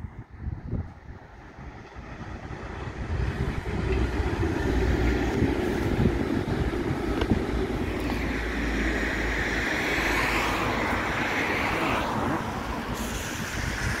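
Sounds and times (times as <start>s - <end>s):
diesel train rumble: 0.0s - 14.0s
rushing noise: 0.7s - 14.0s.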